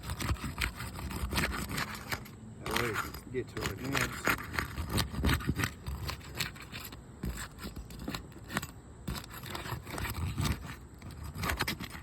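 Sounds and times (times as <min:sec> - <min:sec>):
shingle seals scraping and tearing: 0:00.0 - 0:12.0.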